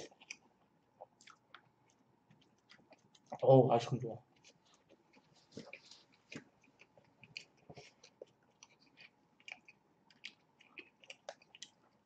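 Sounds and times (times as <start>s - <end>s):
chewing and wet mouth sounds: 0.0s - 3.5s, 4.2s - 12.0s.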